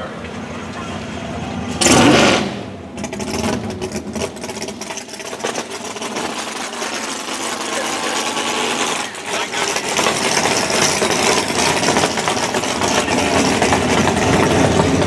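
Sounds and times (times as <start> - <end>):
drag racing engine idling loudly: 0.0 - 15.0.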